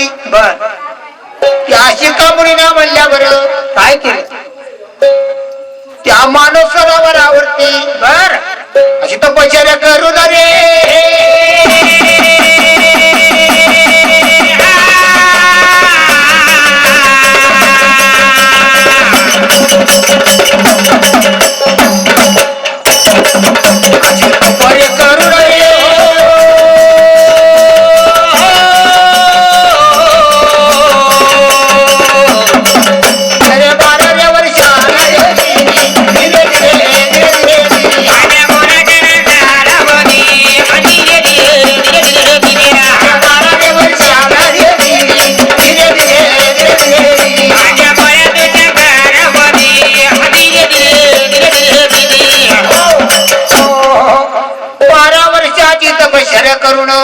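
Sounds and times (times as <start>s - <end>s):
folk devotional music: 1.4s - 55.9s.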